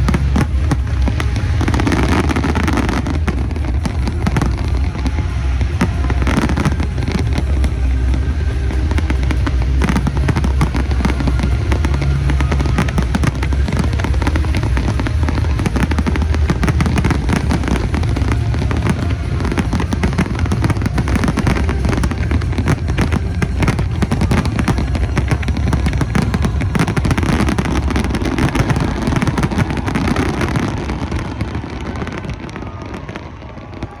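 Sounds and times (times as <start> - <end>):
fireworks bangs and crackles: 0.0 - 34.0
heavy low rumble: 0.0 - 34.0.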